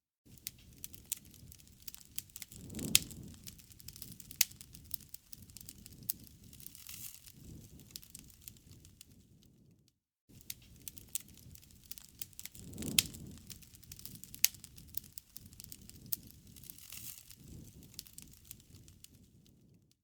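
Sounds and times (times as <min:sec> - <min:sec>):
low rush of flames: 0:00.3 - 0:19.8
wood fire crackling and popping: 0:00.3 - 0:19.9.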